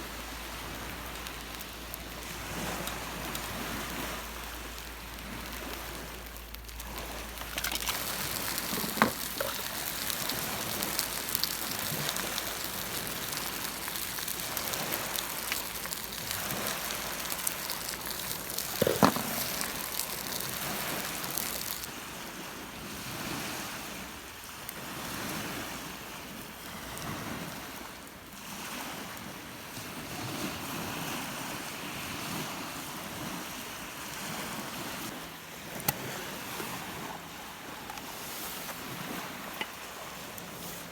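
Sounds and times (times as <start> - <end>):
waves washing onto beach: 0.0 - 40.9
wind: 0.0 - 40.9.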